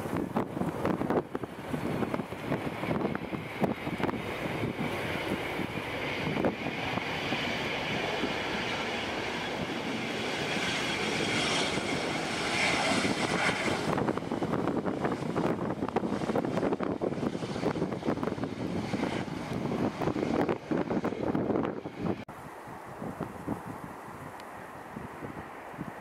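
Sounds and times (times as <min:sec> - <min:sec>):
jet engines whining: 0:00.0 - 0:23.0
wind buffeting microphone: 0:00.0 - 0:26.0.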